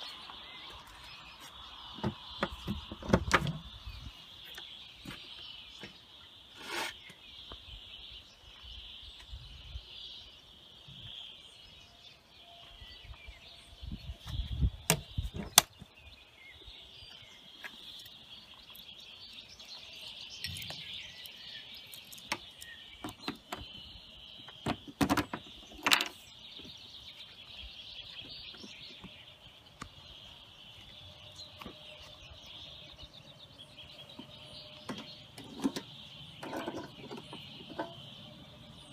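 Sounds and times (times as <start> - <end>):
high bird chirping: 0.0 - 38.9.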